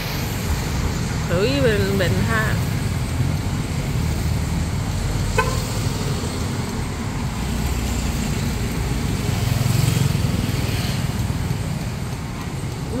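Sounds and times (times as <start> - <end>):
street traffic rumble: 0.0 - 13.0
motorbike passing close: 0.8 - 13.0.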